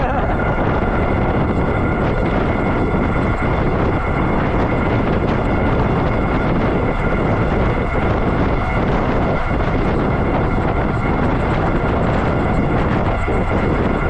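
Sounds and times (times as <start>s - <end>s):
wind rush on microphone: 0.0s - 14.0s.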